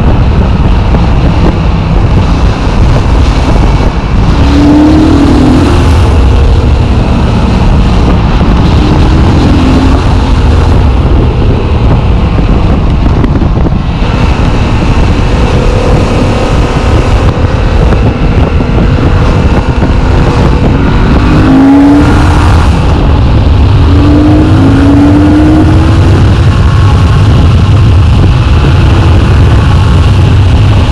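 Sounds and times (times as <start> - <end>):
motorcycle engine accelerating: 0.0 - 30.9
wind noise on microphone: 0.0 - 30.9.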